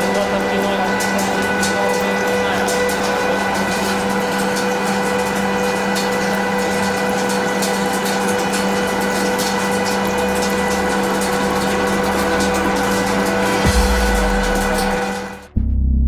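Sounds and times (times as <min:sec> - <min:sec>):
lathe mechanical hum: 0:00.0 - 0:15.5.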